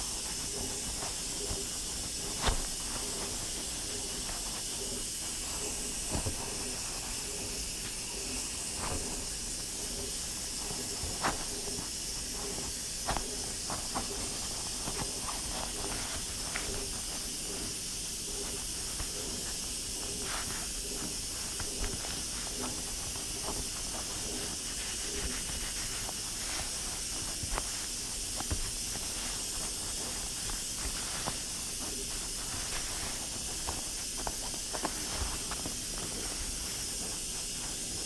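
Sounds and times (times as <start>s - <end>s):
pressure cooker hissing steam: 0.0s - 38.0s.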